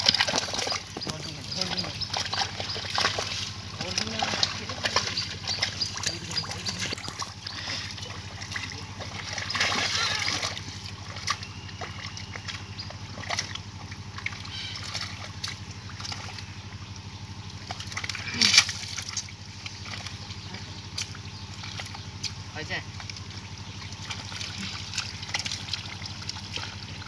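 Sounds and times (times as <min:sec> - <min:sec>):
muddy water splashing: 0:00.0 - 0:27.0.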